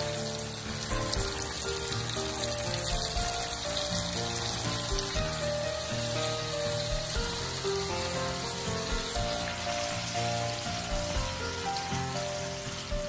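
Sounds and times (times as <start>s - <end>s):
background music: 0.0s - 13.0s
squid sizzling in oil: 0.0s - 13.0s.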